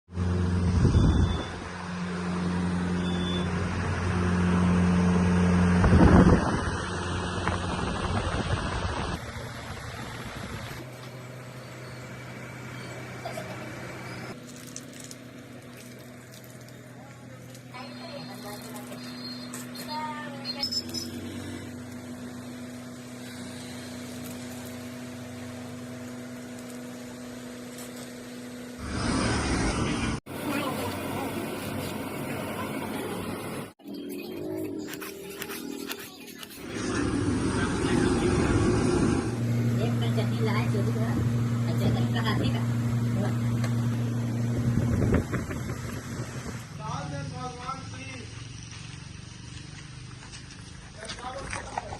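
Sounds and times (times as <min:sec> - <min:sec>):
diesel engine running: 0:00.1 - 0:51.0
steady mechanical hum: 0:00.2 - 0:48.0.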